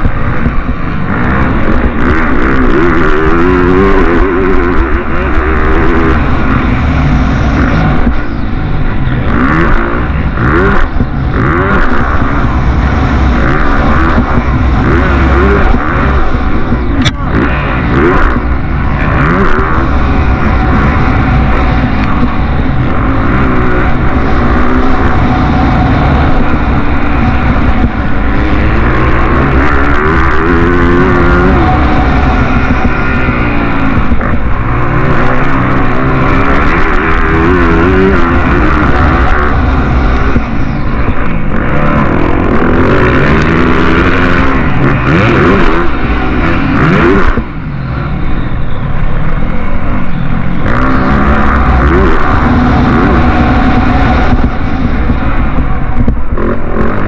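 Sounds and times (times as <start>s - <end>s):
motocross motorcycles revving: 0.0s - 57.0s.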